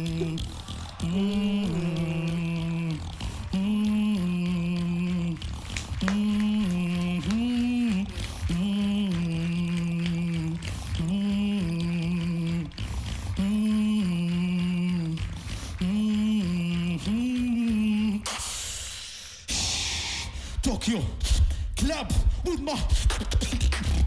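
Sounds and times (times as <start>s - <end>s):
beatboxing clicks and snare hits: 0.0s - 24.0s
beatboxing hummed phrase: 0.0s - 24.0s.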